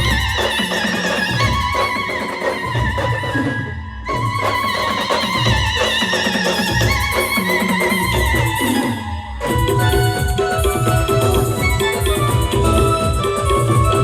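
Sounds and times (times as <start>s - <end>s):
heavy drum beats: 0.0s - 3.5s, 4.2s - 14.0s.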